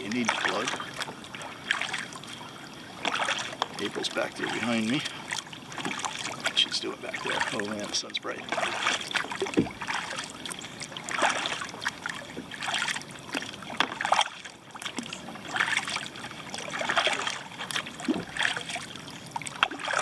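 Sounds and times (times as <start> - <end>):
kayak paddle strokes in water: 0.0 - 20.0.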